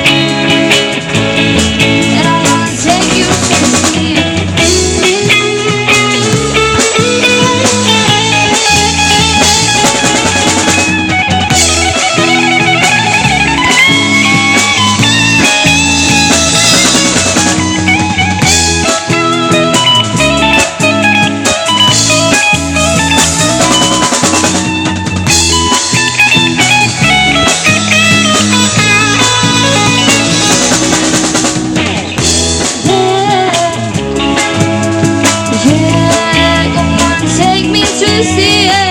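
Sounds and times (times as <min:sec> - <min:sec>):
wavering lead melody: 0:00.0 - 0:33.8
drum kit: 0:00.0 - 0:38.9
guitars: 0:00.0 - 0:38.9
steady bass line: 0:00.0 - 0:38.9.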